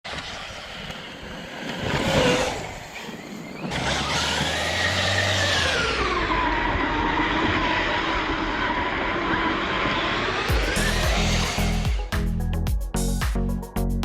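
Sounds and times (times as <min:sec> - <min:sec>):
electric motor whining: 0:00.6 - 0:12.4.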